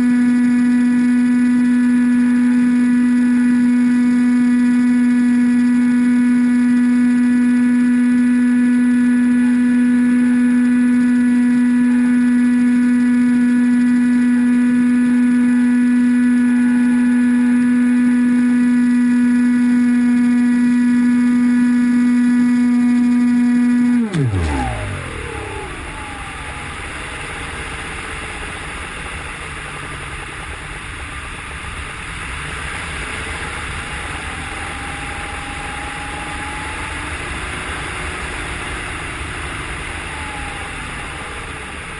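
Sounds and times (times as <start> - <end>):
electric motor and propeller whine: 0.0 - 41.9.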